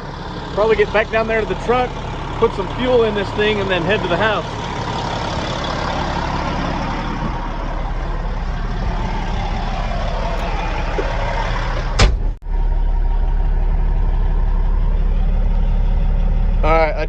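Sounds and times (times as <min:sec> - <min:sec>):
bulldozer diesel engine drone: 0:00.0 - 0:17.0.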